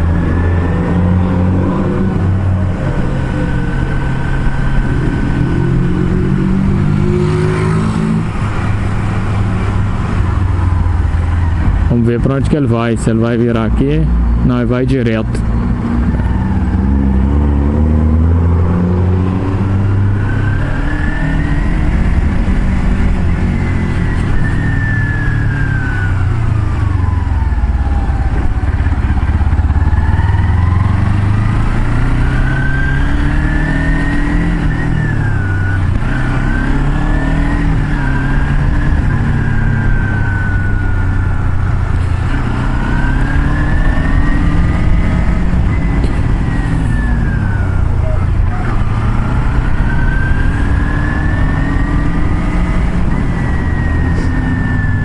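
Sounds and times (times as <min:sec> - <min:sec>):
car engine hum: 0:00.0 - 0:55.0
road noise: 0:00.0 - 0:55.0.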